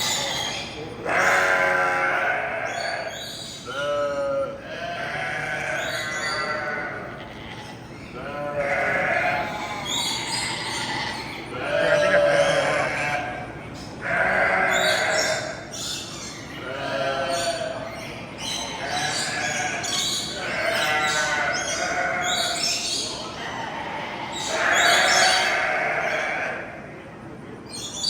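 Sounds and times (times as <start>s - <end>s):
farm animals bleating: 0.0s - 26.8s.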